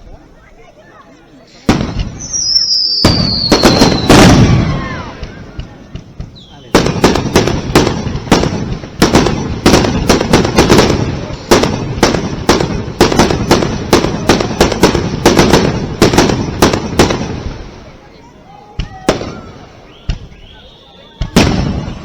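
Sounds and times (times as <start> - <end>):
fireworks crackling: 0.0 - 22.0
fireworks bangs: 1.6 - 22.0.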